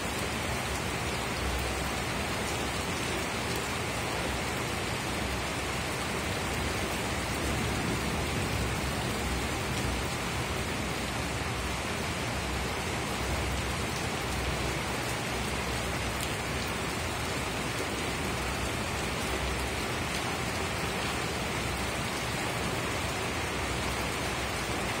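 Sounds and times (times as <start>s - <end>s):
heavy rain on wooden deck: 0.0s - 25.0s.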